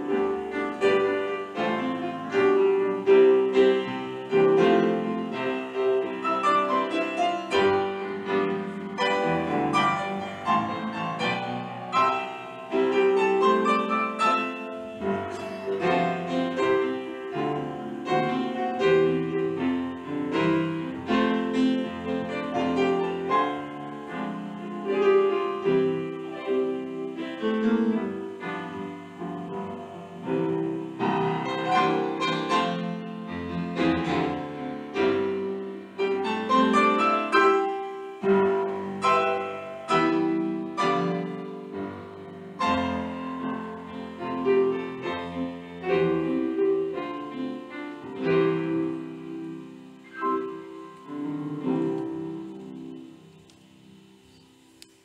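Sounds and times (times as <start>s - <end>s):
solo piano: 0.0s - 55.0s.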